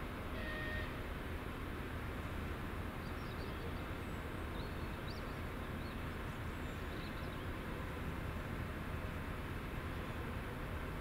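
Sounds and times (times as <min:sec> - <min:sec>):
railway station rumble: 0:00.0 - 0:11.0.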